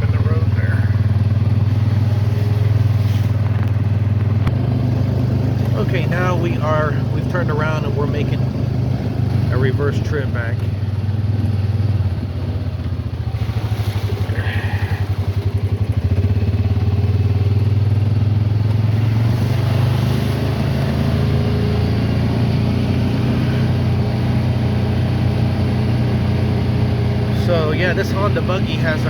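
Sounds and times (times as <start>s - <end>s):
utility vehicle engine running: 0.0s - 29.0s.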